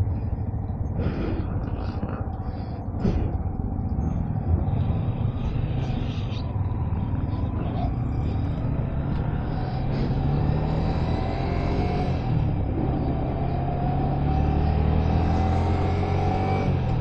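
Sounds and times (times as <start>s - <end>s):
motorcycle engine rumble: 0.0s - 14.3s.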